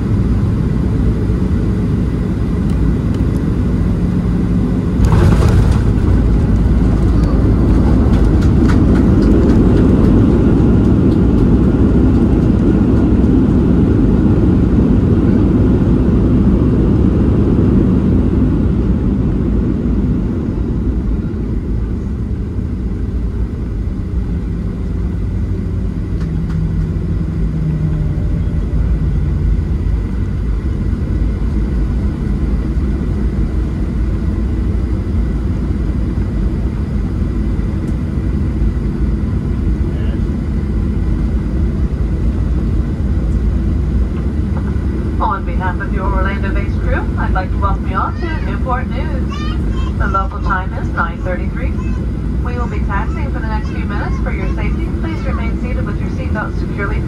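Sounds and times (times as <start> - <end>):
jet engines in reverse thrust: 0.0 - 57.0.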